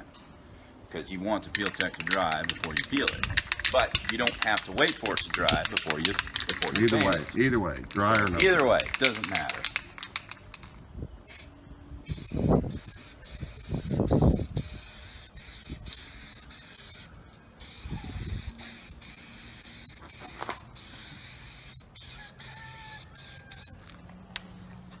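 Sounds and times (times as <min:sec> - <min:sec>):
spray paint can hissing: 0:01.4 - 0:23.8.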